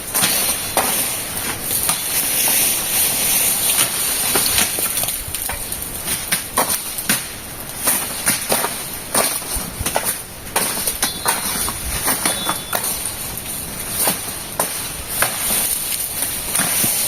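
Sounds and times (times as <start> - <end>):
machete chopping palm leaves: 0.0 - 17.0
steady high hiss: 0.0 - 17.0.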